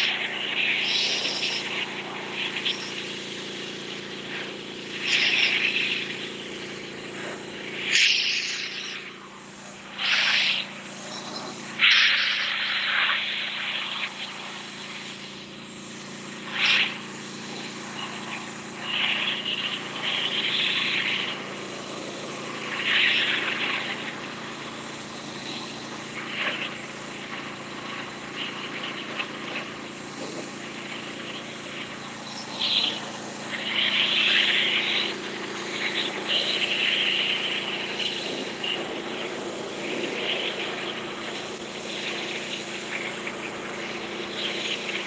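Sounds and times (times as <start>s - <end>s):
high-pressure spray hissing: 0.0s - 45.0s
pressure washer engine running: 0.0s - 45.0s.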